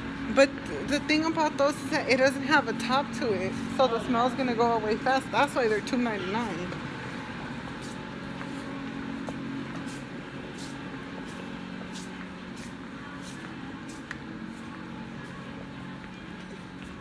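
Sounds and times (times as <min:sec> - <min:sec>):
store background hum: 0:00.0 - 0:17.0
light footsteps: 0:02.7 - 0:17.0.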